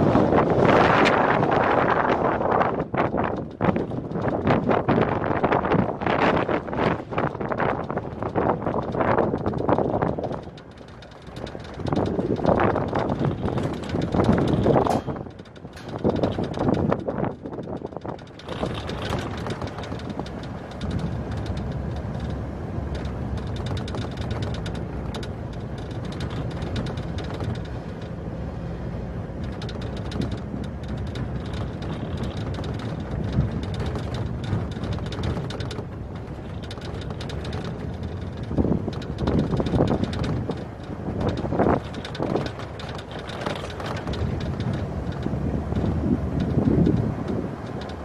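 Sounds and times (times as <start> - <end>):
truck engine: 0.0 - 48.0
tyres on dirt road: 0.0 - 48.0
wind buffeting microphone: 0.0 - 48.0.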